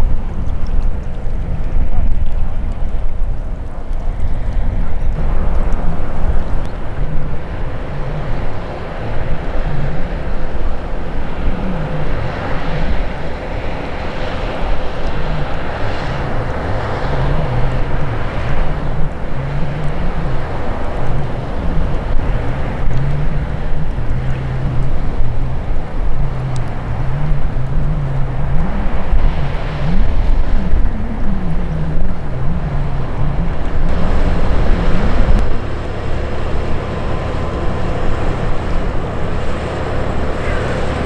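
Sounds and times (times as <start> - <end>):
boat diesel engine droning: 0.0 - 41.0
water rushing at bow: 0.0 - 41.0
wind buffeting microphone: 0.0 - 41.0.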